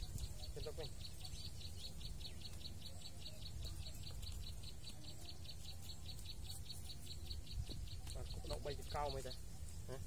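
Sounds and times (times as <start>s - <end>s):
small animal chirping: 0.0s - 10.0s.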